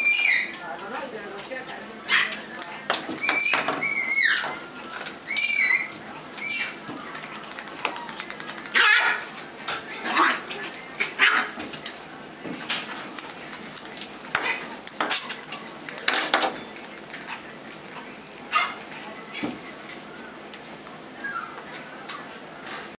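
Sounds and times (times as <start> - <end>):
puppies yipping: 0.0 - 12.3, 12.9 - 20.5, 21.1 - 21.8
paws clicking on hard floor: 0.0 - 20.7
puppies scuffling: 0.0 - 22.9.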